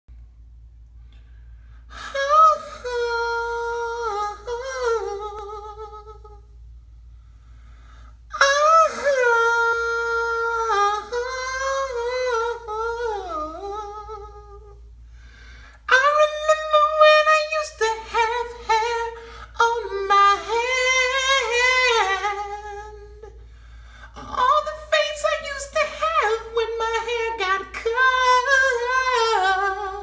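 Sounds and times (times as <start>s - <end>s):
man singing a cappella: 1.9s - 6.5s, 8.3s - 14.9s, 15.7s - 30.0s.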